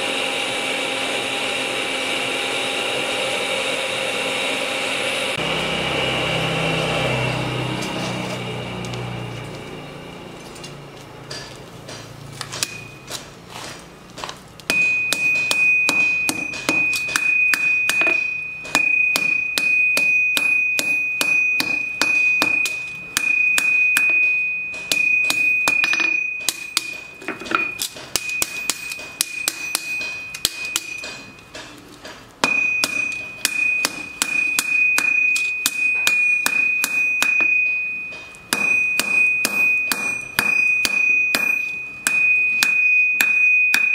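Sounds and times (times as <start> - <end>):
anvil ringing: 5.4 - 13.4, 14.7 - 31.8, 32.4 - 43.9
hammer beating on anvil: 7.1 - 13.3, 14.7 - 43.9.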